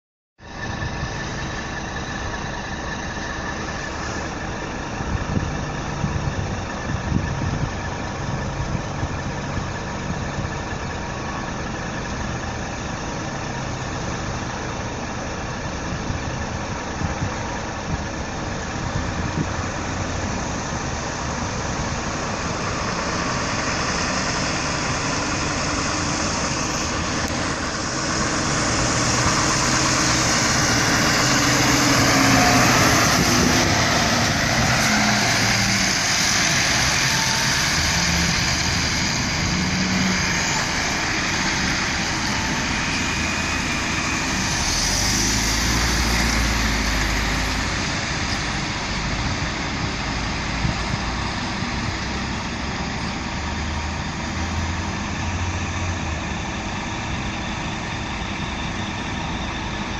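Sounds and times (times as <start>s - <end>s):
lorry diesel engine passing: 0.4s - 59.9s
tyres on wet road: 0.4s - 59.9s.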